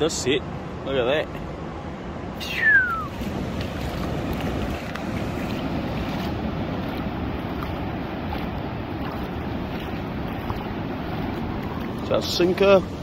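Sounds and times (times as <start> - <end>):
wind buffeting microphone: 1.6 - 13.0
surf breaking on a beach: 2.0 - 13.0.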